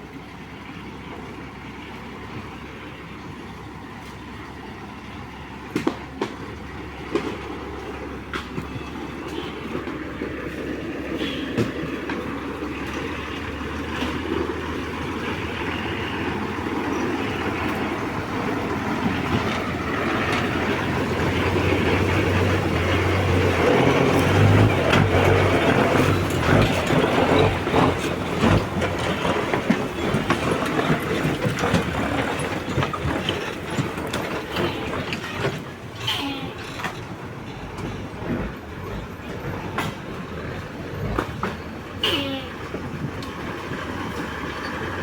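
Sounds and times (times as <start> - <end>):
truck engine rumble: 0.0 - 45.0.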